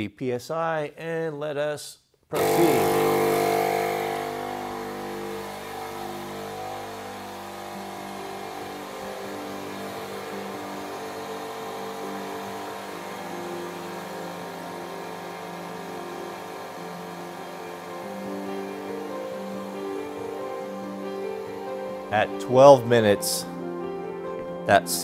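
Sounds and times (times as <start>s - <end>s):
tire inflator compressor running: 2.4s - 24.8s.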